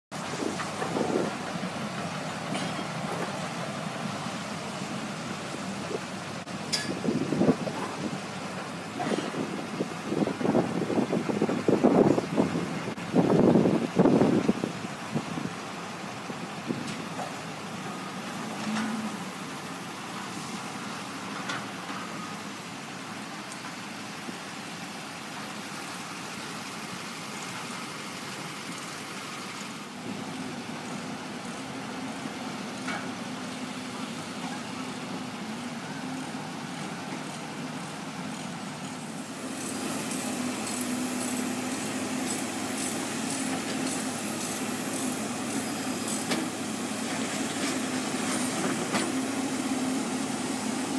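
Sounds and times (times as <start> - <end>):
heavy equipment engines droning: 0.1 - 50.9.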